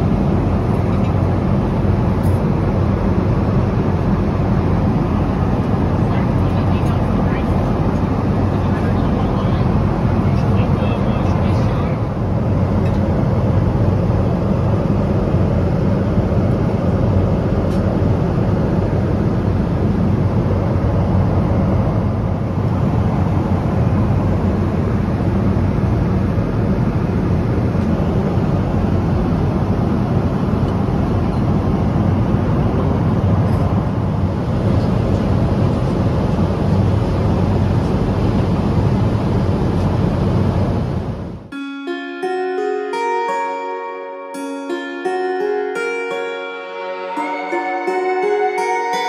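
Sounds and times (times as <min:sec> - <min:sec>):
airplane cabin engine rumble: 0:00.0 - 0:41.4.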